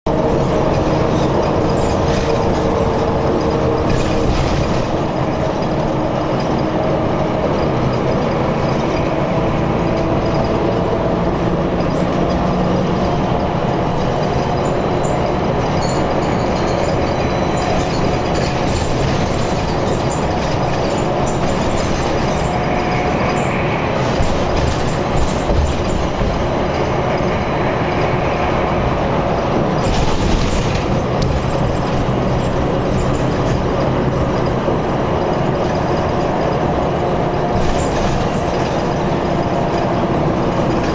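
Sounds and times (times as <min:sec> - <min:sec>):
highway traffic rumble: 0:00.0 - 0:40.9.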